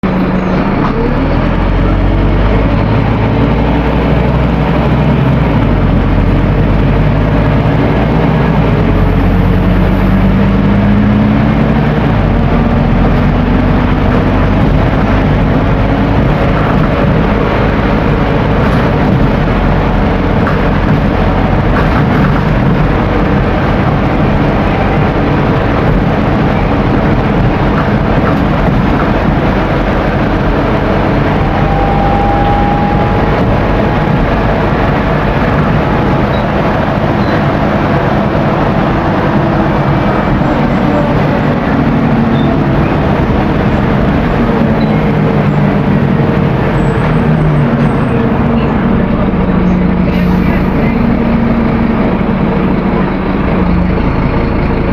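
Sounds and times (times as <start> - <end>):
bus diesel engine accelerating: 0.0 - 54.9
road noise: 0.0 - 54.9.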